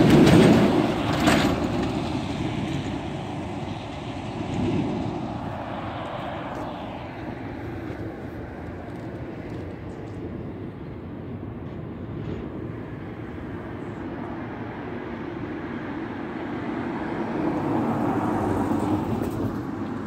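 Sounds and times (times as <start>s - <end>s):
vehicle passing: 0.0s - 10.7s, 12.2s - 20.0s
traffic rumble: 0.0s - 20.0s.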